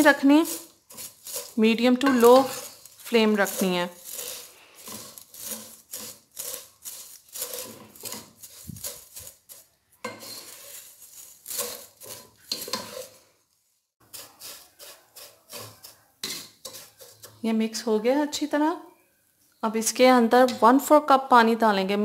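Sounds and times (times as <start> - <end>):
spatula scraping in a pan: 0.0 - 18.6.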